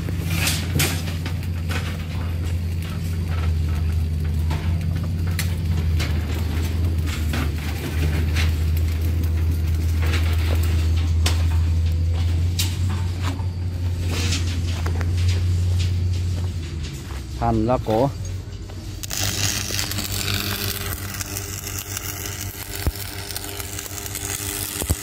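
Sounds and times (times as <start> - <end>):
machinery engine hum: 0.0 - 25.0.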